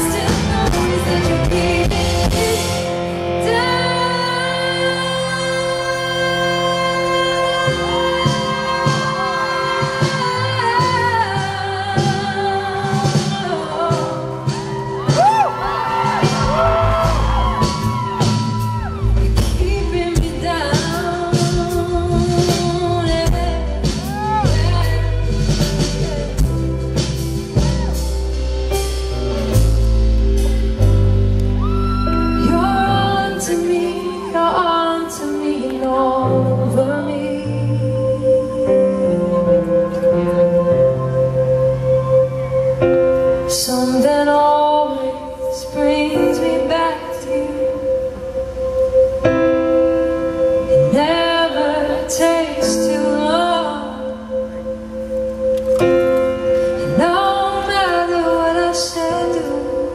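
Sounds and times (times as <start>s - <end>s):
woman singing a pop ballad: 0.0s - 28.1s, 31.6s - 41.2s, 43.5s - 48.0s, 50.7s - 54.7s, 56.2s - 59.9s
piano chords: 0.0s - 59.9s.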